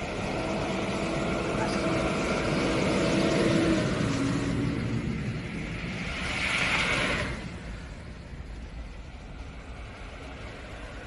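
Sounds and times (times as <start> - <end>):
engine drone: 0.0 - 11.0
tyre hiss on wet road: 0.1 - 11.0.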